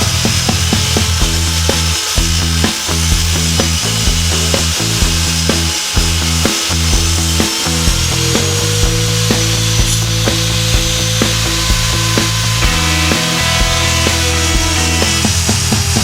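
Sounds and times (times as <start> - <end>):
music with steady beat: 0.0 - 16.0
table saw ripping wood: 0.0 - 16.0.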